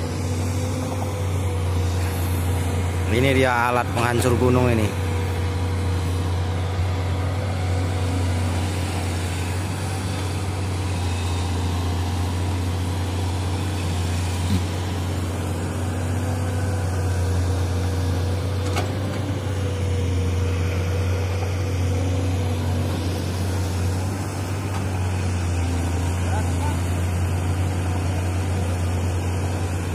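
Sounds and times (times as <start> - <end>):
diesel engines running: 0.0 - 29.9.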